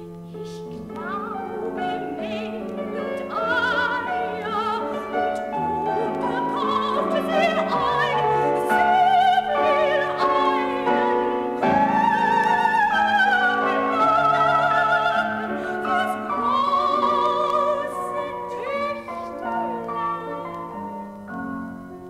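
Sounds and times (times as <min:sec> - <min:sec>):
soprano singing with vibrato: 0:00.0 - 0:21.5
piano accompaniment: 0:00.0 - 0:22.0.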